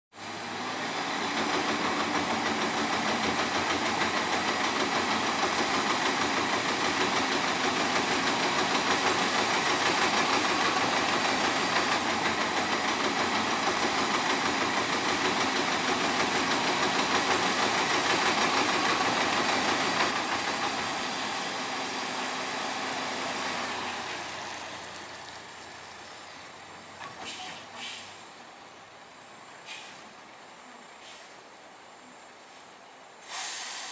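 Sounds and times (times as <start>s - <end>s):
truck engine running: 0.2s - 30.5s
loud steady hiss: 0.2s - 33.9s.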